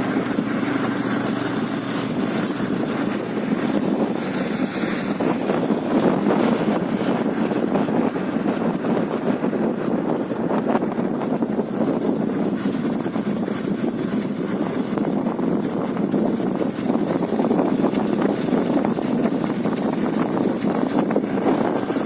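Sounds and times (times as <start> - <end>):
engine hum: 0.0 - 22.0
road and wind noise: 0.0 - 22.0.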